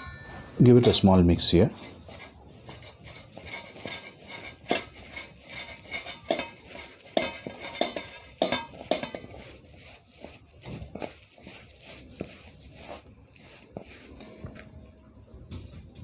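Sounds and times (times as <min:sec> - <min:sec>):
spoon scraping a bowl: 0:00.8 - 0:15.0.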